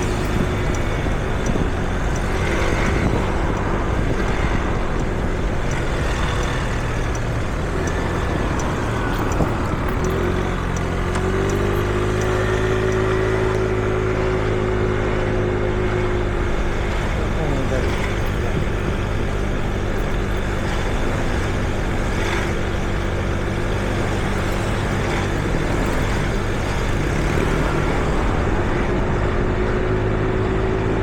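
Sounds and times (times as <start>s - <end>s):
city traffic passing: 0.0s - 31.0s
engine droning close by: 0.0s - 31.0s.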